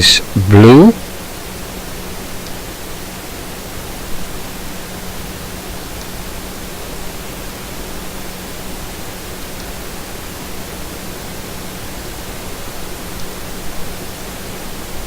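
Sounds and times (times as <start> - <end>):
recording hiss: 0.0 - 15.0.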